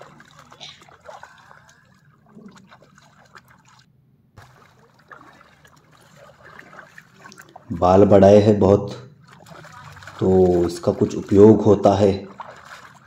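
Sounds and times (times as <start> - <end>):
water sloshing and trickling: 0.0 - 13.0.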